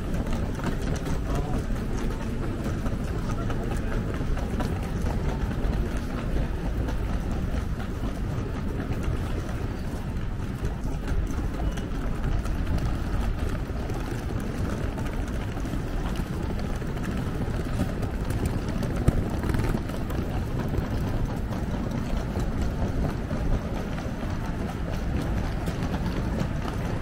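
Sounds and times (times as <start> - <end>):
city street rumble: 0.0 - 27.0.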